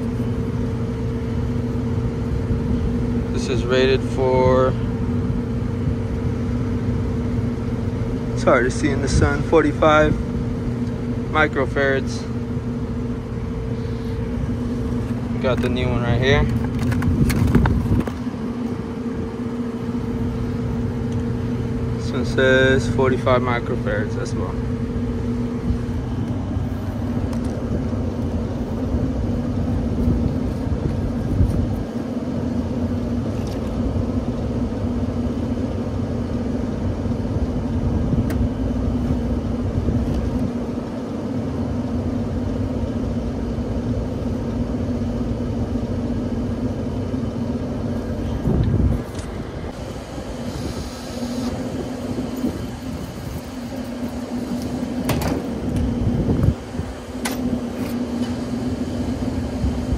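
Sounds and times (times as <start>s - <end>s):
heavy low rumble: 0.0s - 40.9s, 41.8s - 57.8s
air conditioning hum: 0.0s - 59.9s.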